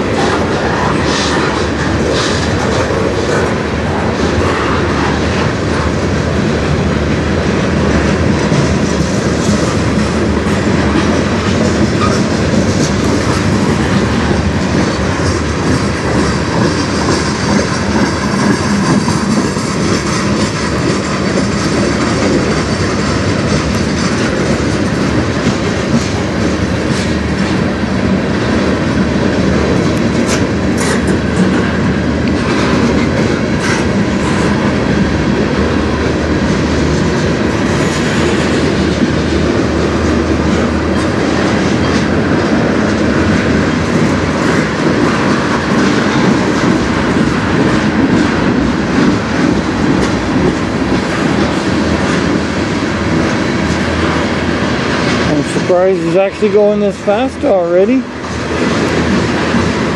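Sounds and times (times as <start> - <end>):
train wheels rumbling on rails: 0.0 - 59.9
wheels clicking over rail joints: 7.3 - 59.9.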